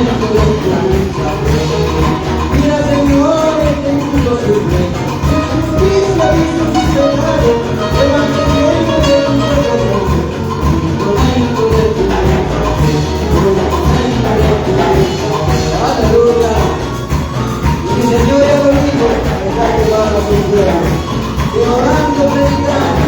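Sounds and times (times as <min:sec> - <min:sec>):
upbeat latin band music: 0:00.0 - 0:23.0.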